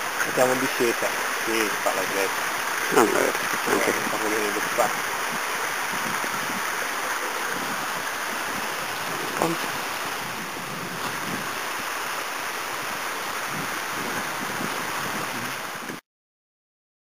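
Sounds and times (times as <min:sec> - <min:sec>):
mountain torrent rushing: 0:00.0 - 0:16.0.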